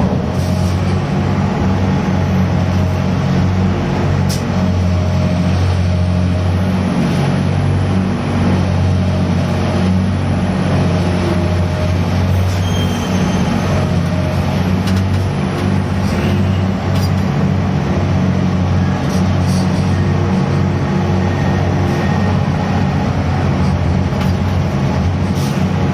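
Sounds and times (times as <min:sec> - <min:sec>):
crane machinery and diesel engine drone: 0:00.0 - 0:25.9.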